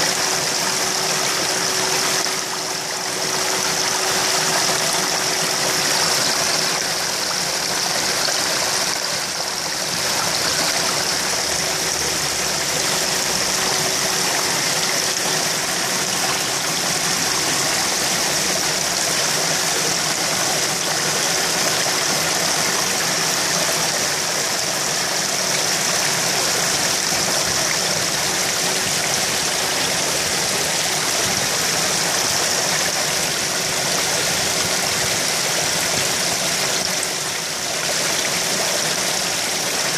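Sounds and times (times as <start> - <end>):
pond water bubbling and splashing: 0.0 - 39.9
steady hum: 0.0 - 39.9.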